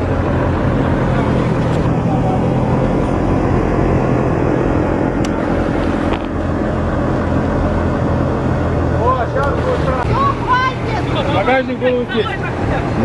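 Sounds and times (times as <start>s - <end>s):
off-road vehicle engine idling: 0.0s - 13.0s.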